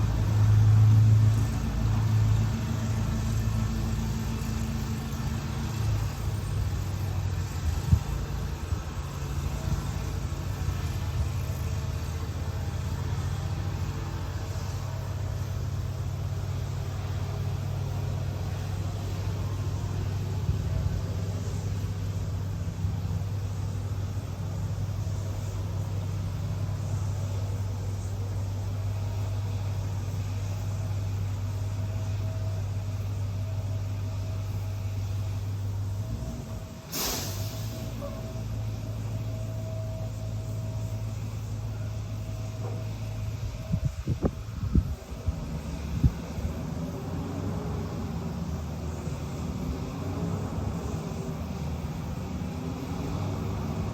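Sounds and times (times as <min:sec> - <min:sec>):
bus engine droning: 0:00.0 - 0:53.9
road noise: 0:00.0 - 0:53.9.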